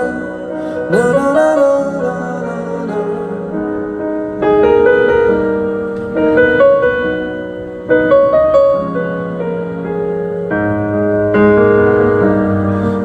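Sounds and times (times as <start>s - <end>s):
piano playing sustained chords: 0.0s - 13.0s.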